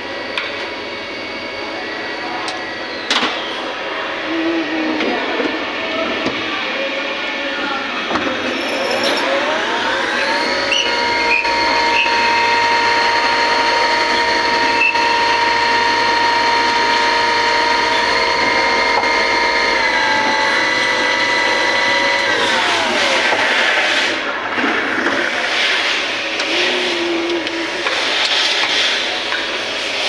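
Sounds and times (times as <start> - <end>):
machine motor whine: 0.0 - 30.0.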